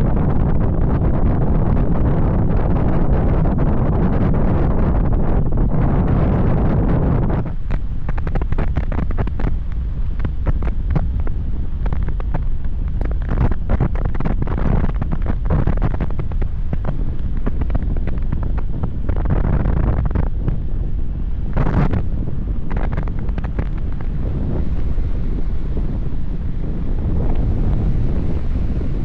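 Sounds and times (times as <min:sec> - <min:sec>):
wind buffeting microphone: 0:00.0 - 0:29.0
short irregular crackles: 0:05.7 - 0:29.0.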